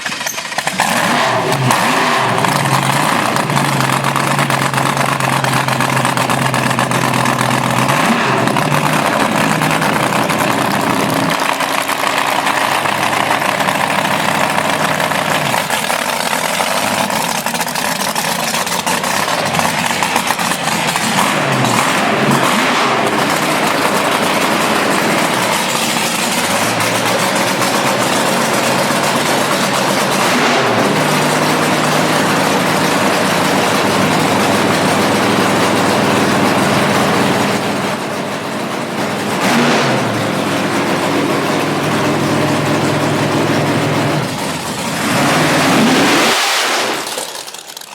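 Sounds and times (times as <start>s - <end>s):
dragster engine rough idle: 0.0s - 47.9s
engine throttle blips: 0.0s - 47.9s.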